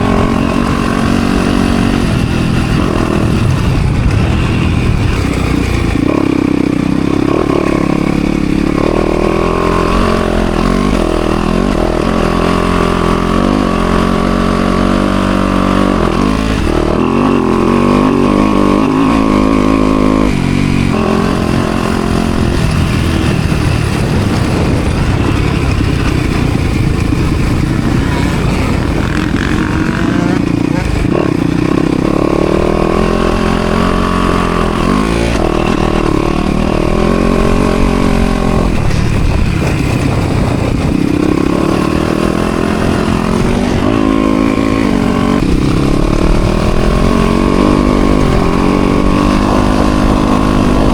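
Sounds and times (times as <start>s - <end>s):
motorbike engine revving: 0.0s - 50.9s.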